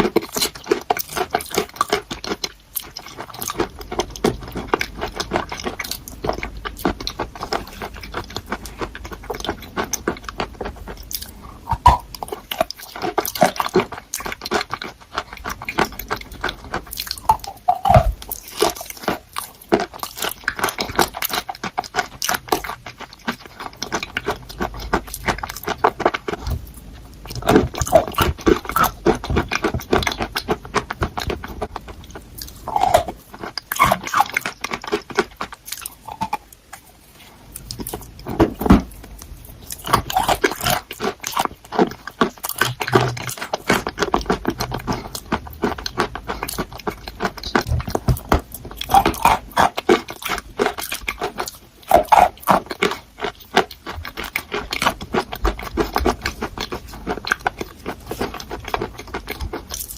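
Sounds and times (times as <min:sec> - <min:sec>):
person chewing crunchy chalk: 0:00.0 - 0:59.9.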